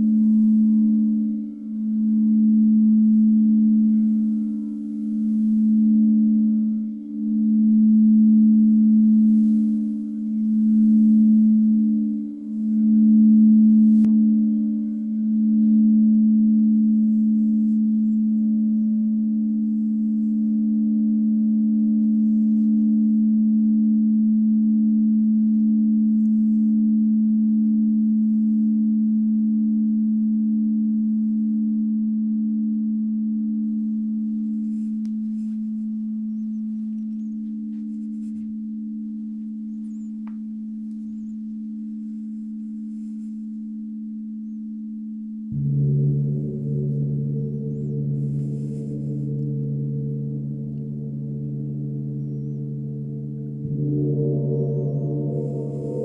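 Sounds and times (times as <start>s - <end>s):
singing bowls ringing: 0.0s - 56.0s.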